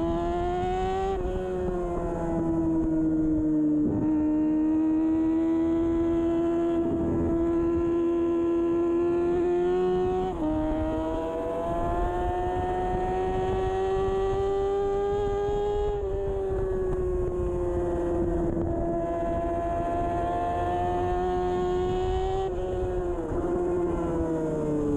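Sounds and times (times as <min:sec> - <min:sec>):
motorcycle engine at high revs: 0:00.0 - 0:24.9.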